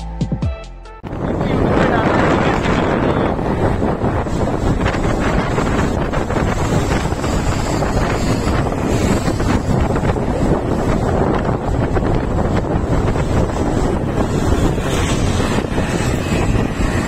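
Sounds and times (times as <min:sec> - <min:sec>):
wind buffeting microphone: 0:01.0 - 0:17.0.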